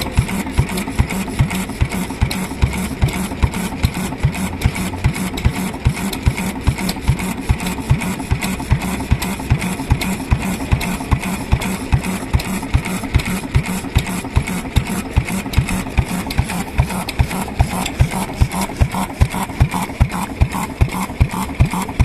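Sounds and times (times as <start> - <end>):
single-cylinder engine running: 0.0 - 22.0.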